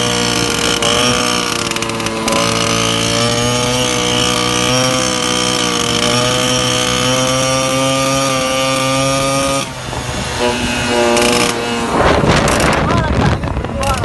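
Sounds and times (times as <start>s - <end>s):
moped two-stroke engine running: 0.0s - 14.0s.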